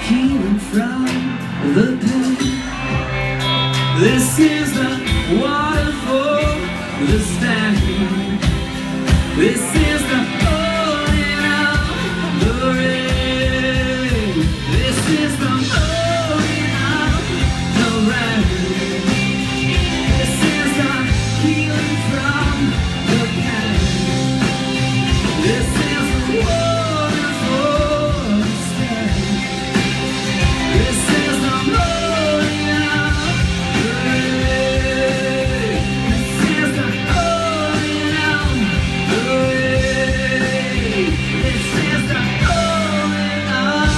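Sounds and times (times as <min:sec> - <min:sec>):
man singing lead vocal: 0:00.0 - 0:43.9
rock band playing live: 0:00.0 - 0:43.9.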